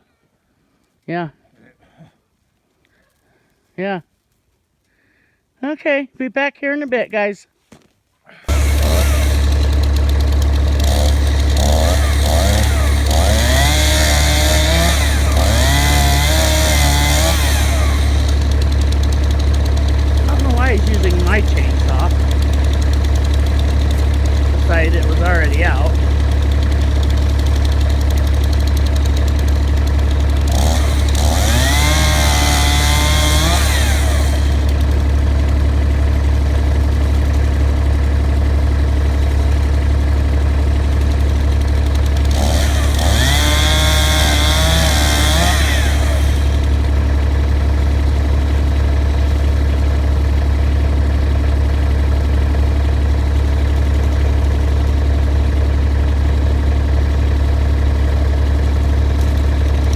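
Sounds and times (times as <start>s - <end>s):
chainsaw idling and revving: 8.5s - 59.9s.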